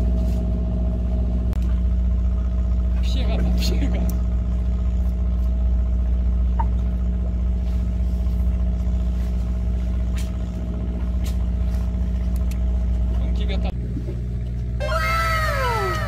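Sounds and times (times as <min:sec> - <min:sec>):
boat machinery droning: 0:00.0 - 0:16.0.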